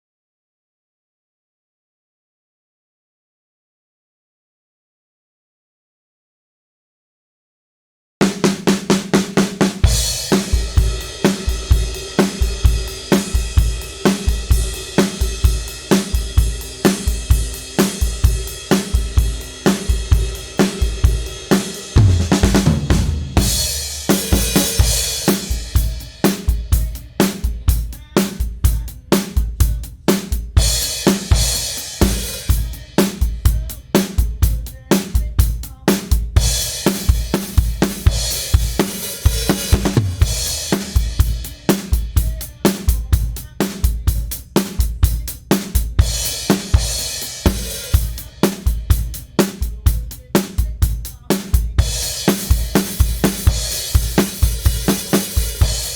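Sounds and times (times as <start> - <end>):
drum kit playing a beat: 8.2 - 55.9.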